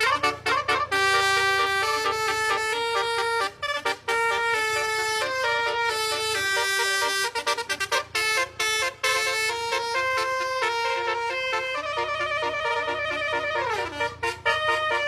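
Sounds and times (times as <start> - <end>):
brassy horn melody: 0.0 - 15.0.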